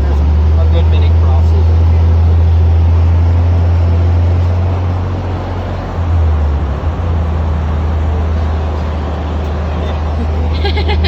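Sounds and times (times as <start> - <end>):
farm vehicle driving slowly: 0.0 - 11.0.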